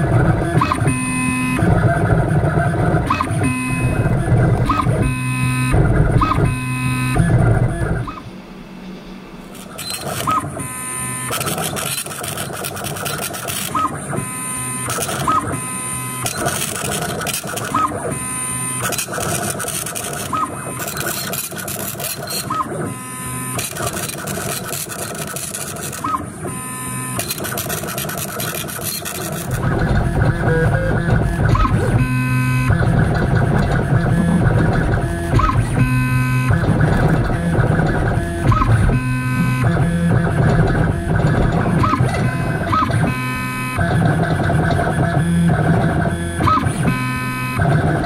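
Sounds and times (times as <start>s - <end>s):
stepper motors whirring: 9.5s - 48.0s.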